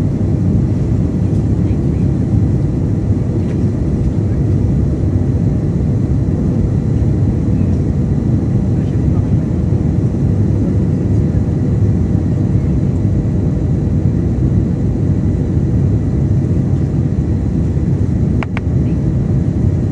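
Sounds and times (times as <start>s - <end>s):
faint steady whine: 0.0s - 19.9s
jet engines rumbling: 0.0s - 19.9s.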